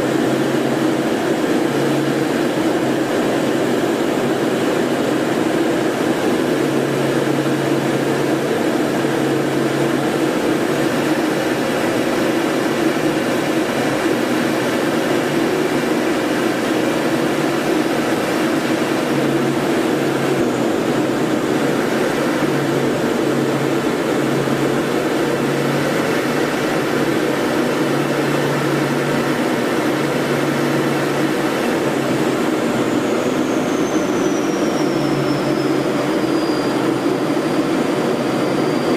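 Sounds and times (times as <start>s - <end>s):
aircraft engine and airflow noise: 0.0s - 38.9s.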